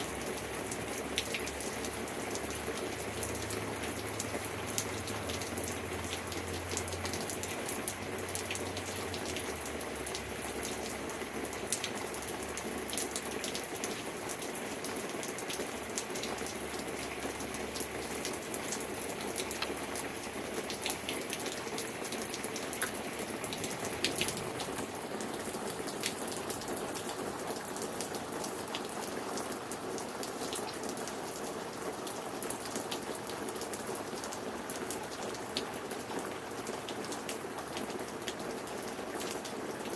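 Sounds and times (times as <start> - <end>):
raindrops ticking close by: 0.0 - 39.9
steady rain hiss: 0.0 - 39.9.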